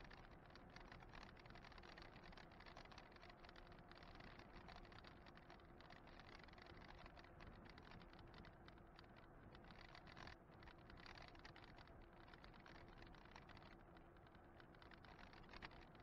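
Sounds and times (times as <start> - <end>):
faint steady hum: 0.0 - 16.0
rapid light ticking: 0.0 - 16.0.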